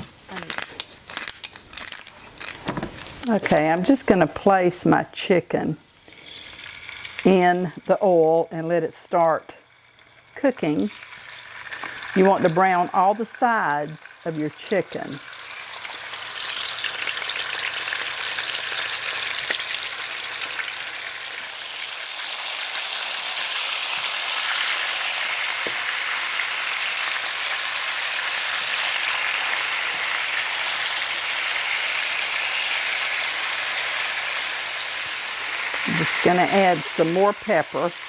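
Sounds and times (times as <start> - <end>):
chicken sizzling in oil: 5.8 - 8.2, 8.9 - 38.0.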